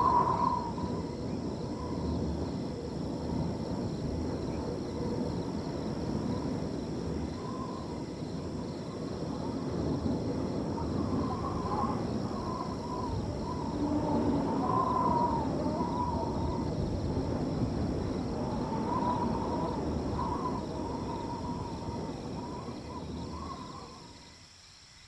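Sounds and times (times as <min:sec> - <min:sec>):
crickets trilling: 0:00.0 - 0:25.0
wind blowing through a field: 0:00.0 - 0:25.0.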